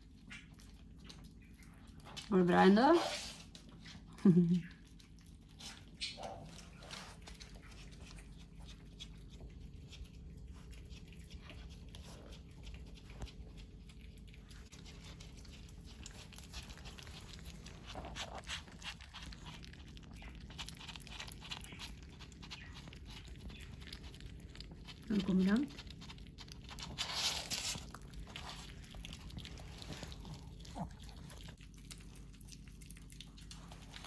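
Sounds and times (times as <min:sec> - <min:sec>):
dog crunching eggshell: 0:04.8 - 0:34.0.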